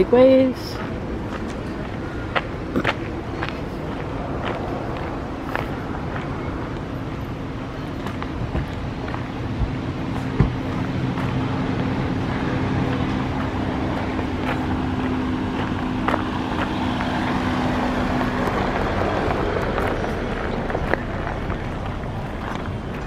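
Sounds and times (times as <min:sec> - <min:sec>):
engine humming: 0:00.0 - 0:23.0
open-air background noise: 0:00.0 - 0:23.0.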